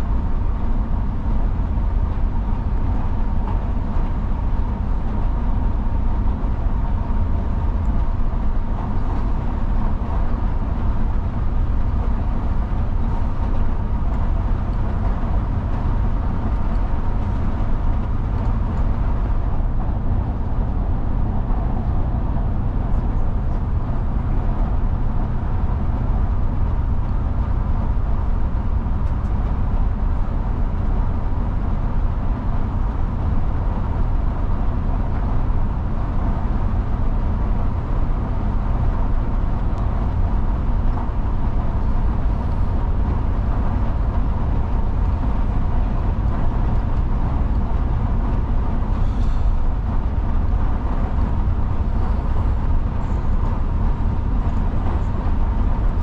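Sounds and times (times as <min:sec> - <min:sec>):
coach engine and road drone: 0:00.0 - 0:56.0.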